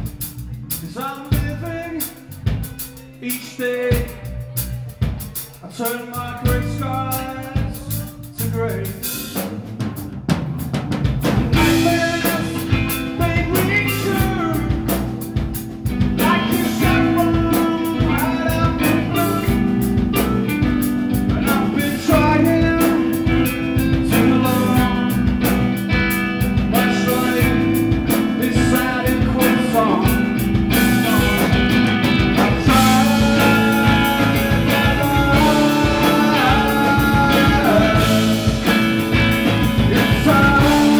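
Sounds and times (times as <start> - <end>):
bass guitar: 0.0 - 40.9
drum kit: 0.0 - 40.9
electric guitar: 0.0 - 40.9
man singing: 0.6 - 9.7, 11.5 - 40.9.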